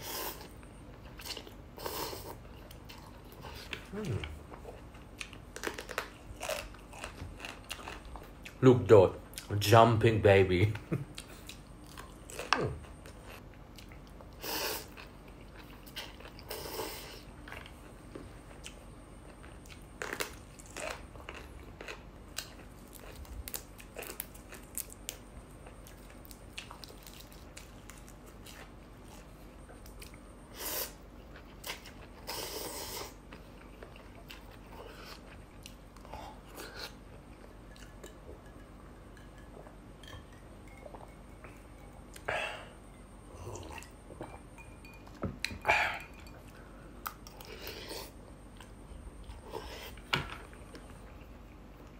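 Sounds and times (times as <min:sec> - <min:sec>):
person chewing crunchy food: 0:00.3 - 0:08.6, 0:11.1 - 0:51.9.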